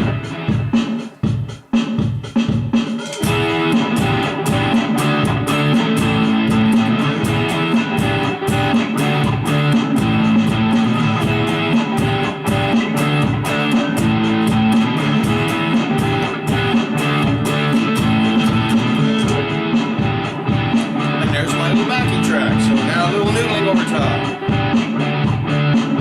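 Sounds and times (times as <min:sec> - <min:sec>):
overdriven electric guitar strumming: 0:00.0 - 0:01.7, 0:02.8 - 0:26.0
drum machine beat: 0:00.0 - 0:26.0.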